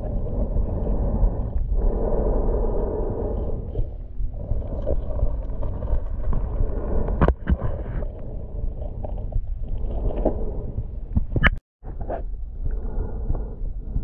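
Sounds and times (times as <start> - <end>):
underwater rumble of moving water: 0.0 - 14.0.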